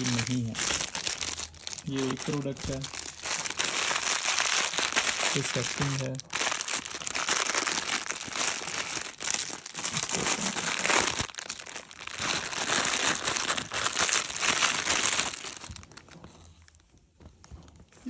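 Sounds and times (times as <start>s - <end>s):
plastic packaging crinkling: 0.0s - 17.9s.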